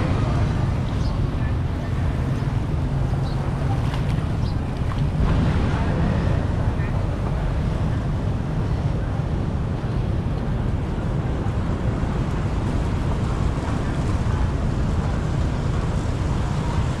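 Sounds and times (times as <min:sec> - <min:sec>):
floodwater rushing through drain: 0:00.0 - 0:17.0
wind rumble on microphone: 0:00.0 - 0:17.0.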